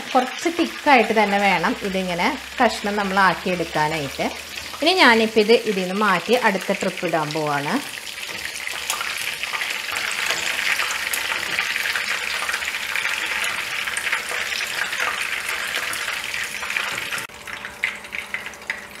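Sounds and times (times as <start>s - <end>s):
chicken deep-frying in oil: 0.0s - 19.0s.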